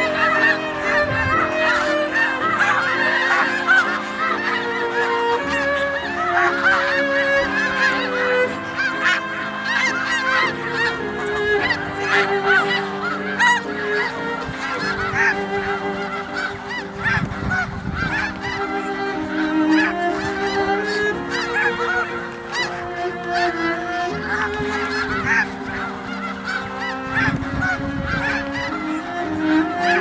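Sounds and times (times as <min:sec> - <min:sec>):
flock of geese honking: 0:00.0 - 0:30.0.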